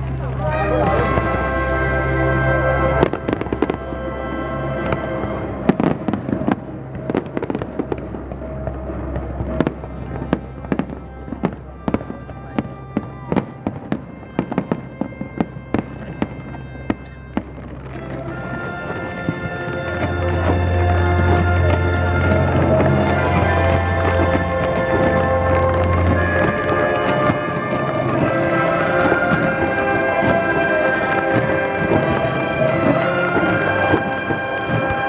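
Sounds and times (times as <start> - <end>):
music playing: 0.0 - 35.0
fireworks bangs and crackles: 3.0 - 35.0.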